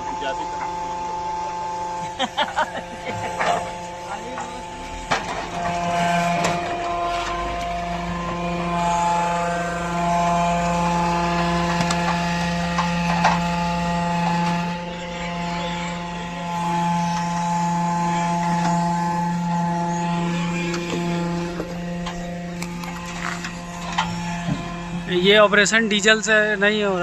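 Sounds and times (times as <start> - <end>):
hydraulic motor and pump hum: 0.0 - 27.0.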